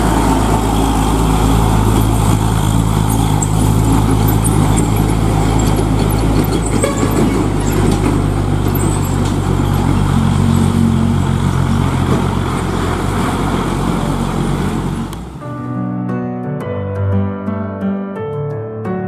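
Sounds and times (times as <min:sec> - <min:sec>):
truck diesel engine drone: 0:00.0 - 0:15.7
road noise: 0:00.0 - 0:15.8.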